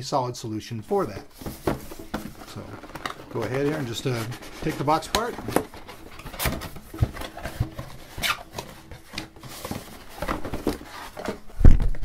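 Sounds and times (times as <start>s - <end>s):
cardboard rustling and scraping: 0.9s - 12.0s.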